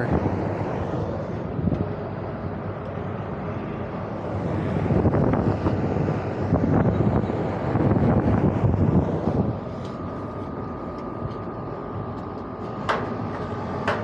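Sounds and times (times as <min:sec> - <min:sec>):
wind on microphone: 0:00.0 - 0:12.2
air-conditioning equipment rumble: 0:00.0 - 0:14.0.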